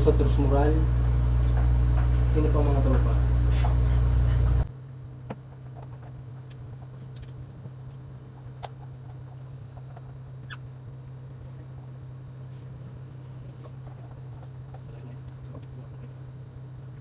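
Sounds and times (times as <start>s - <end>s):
faint steady hum: 0.0s - 17.0s
loud low hum: 0.0s - 17.0s.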